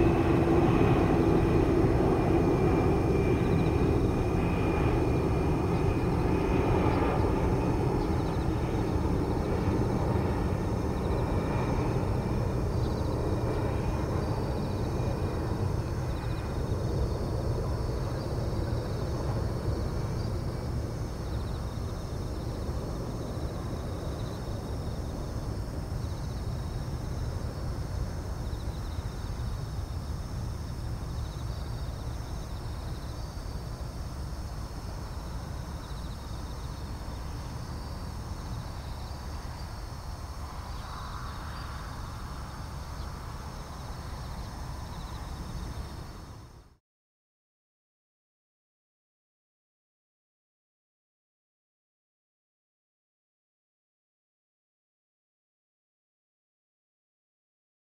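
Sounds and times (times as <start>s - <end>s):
insects chirring: 0.0s - 46.7s
distant jet engine rumble: 0.0s - 46.8s.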